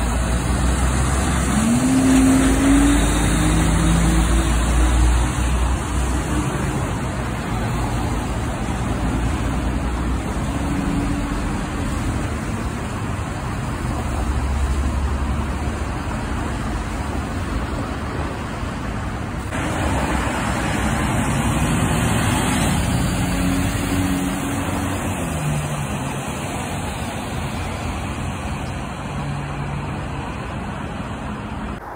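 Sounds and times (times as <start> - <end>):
passing truck and car engines: 0.0 - 31.9
tyre noise on wet road: 0.0 - 31.9.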